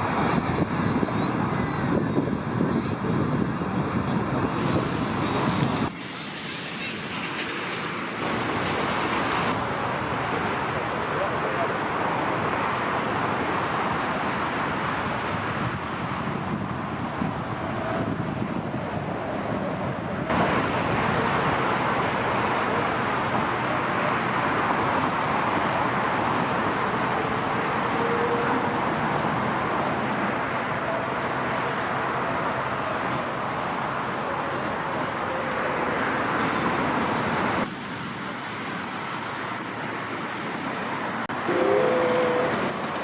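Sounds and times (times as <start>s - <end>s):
jet airliner engine noise: 0.0s - 43.0s.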